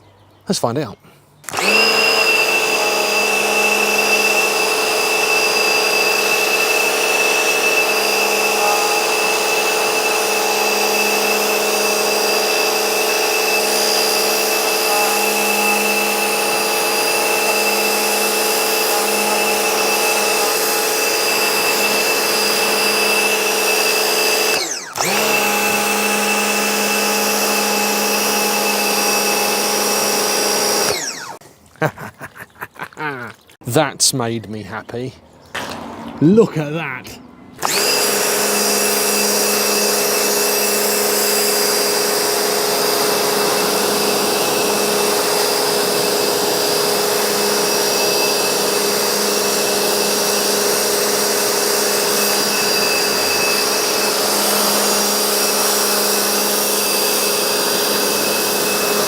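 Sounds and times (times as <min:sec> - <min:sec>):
pressure washer motor humming: 0:01.4 - 0:31.4, 0:37.6 - 0:59.0.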